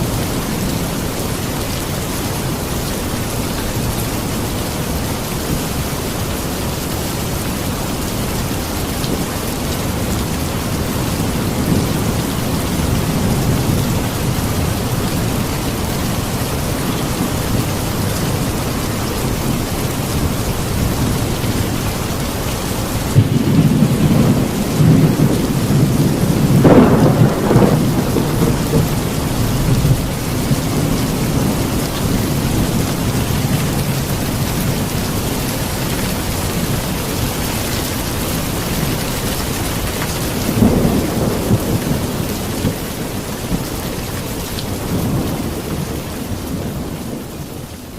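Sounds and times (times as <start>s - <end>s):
heavy rain: 0.0s - 47.9s
thunder rumbling and cracking: 7.7s - 47.9s.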